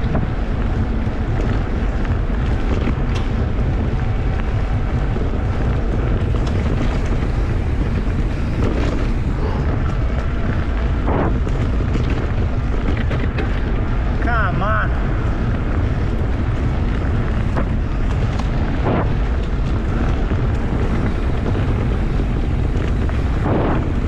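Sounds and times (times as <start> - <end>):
bike rattling over bumps: 0.0 - 24.0
bike rumbling over dirt trail: 0.0 - 24.0
wind on microphone: 0.0 - 24.0.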